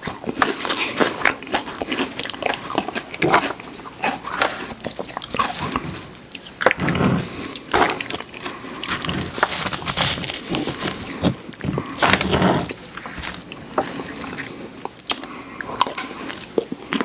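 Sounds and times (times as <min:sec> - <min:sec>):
chewing crunchy cookies: 0:00.0 - 0:17.0.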